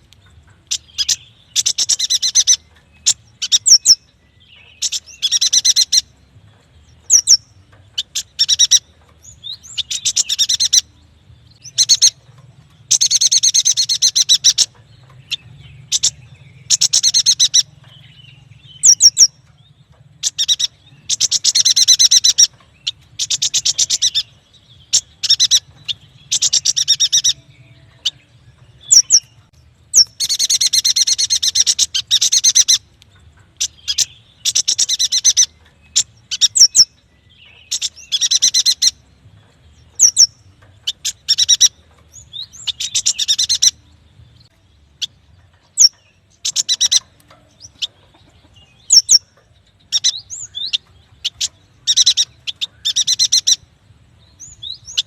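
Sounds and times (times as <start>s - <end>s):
bird chirping trills: 0.0s - 55.0s.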